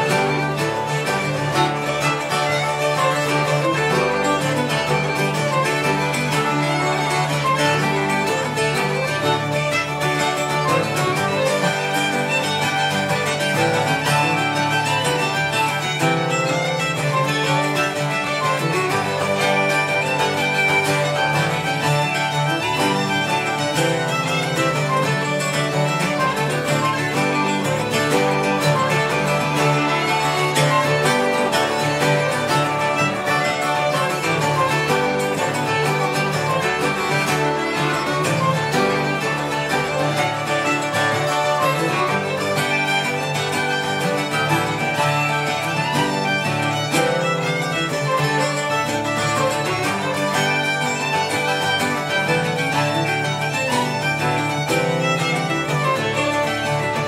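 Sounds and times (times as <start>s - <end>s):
bagpipes with drone: 0.0s - 57.0s
folk jig on pipes fiddle and guitar: 0.0s - 57.0s.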